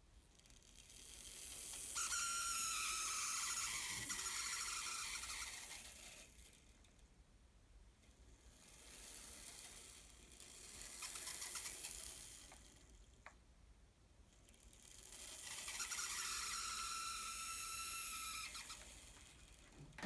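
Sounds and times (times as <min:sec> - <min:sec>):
small electric motor whining: 0:00.5 - 0:06.7, 0:08.5 - 0:13.0, 0:14.5 - 0:20.0.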